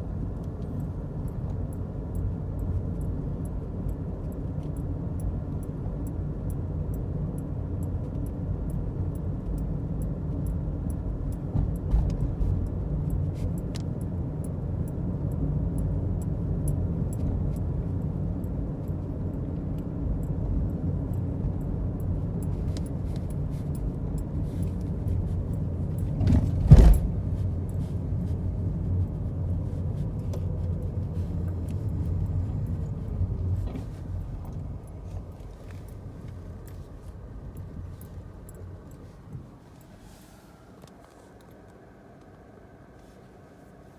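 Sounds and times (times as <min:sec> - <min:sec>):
car rumbling on the move: 0:00.0 - 0:43.8
faint ticks and rattles: 0:00.2 - 0:41.6.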